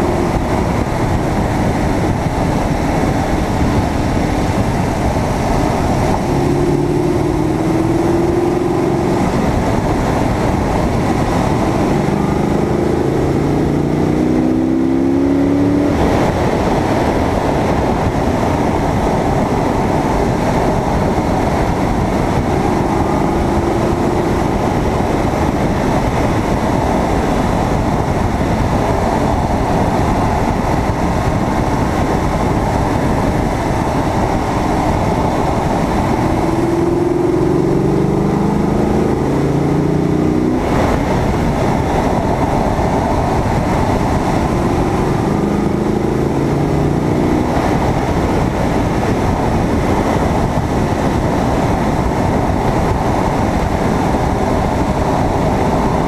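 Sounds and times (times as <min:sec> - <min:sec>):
car engine accelerating: 0:00.0 - 0:56.0
wind rushing: 0:00.0 - 0:56.0.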